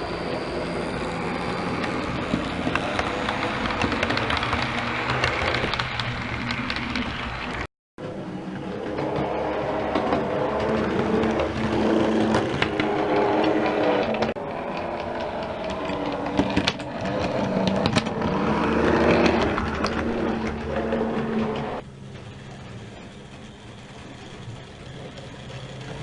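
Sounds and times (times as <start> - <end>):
wheels clicking over rail joints: 0.0 - 26.0.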